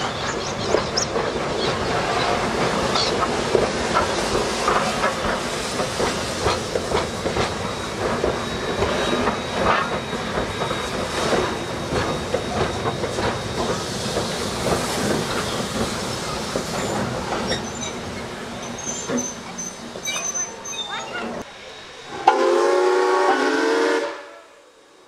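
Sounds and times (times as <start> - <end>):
steam locomotive exhaust beats: 0.0 - 20.1, 21.4 - 25.0
wheels clattering on rail joints: 0.0 - 21.5
steam hiss: 1.8 - 20.7, 21.4 - 25.0.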